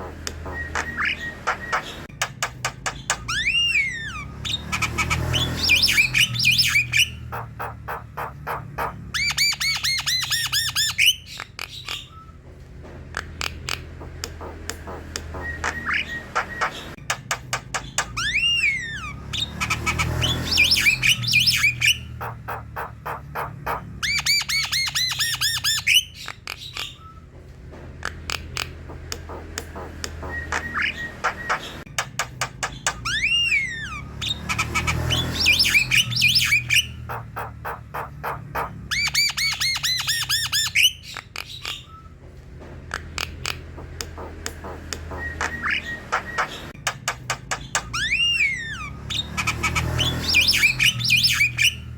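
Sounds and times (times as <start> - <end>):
bird singing: 0.0 - 12.5, 13.2 - 27.4, 28.1 - 42.2, 43.0 - 51.9.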